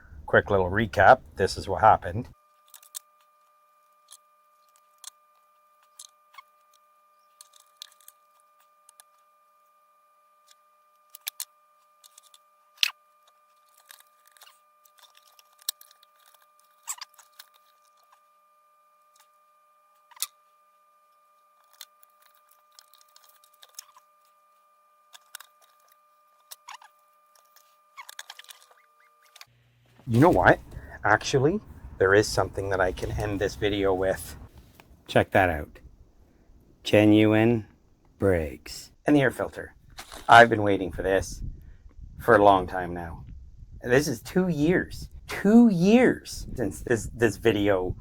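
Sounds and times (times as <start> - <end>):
steady high-pitched hum: 0.0 - 48.0.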